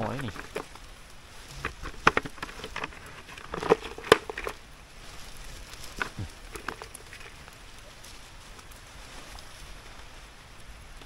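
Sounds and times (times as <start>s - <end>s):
digging in wet soil: 0.0s - 10.1s.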